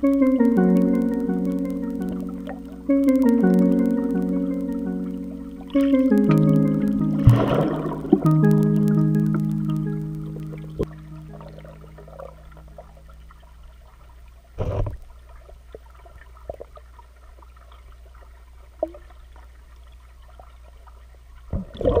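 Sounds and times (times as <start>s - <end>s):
faint crackling and clicks: 0.0s - 21.5s
low underwater hum: 0.0s - 22.0s.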